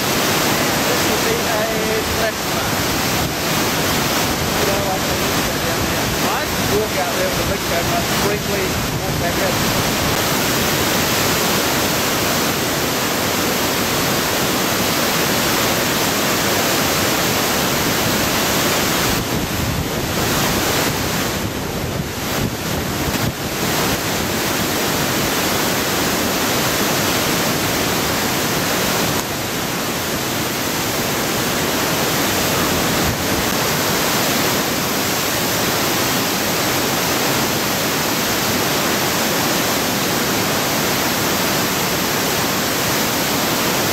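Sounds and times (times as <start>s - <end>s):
river rushing: 0.0s - 43.9s
wind and rain buffeting microphone: 0.0s - 43.9s.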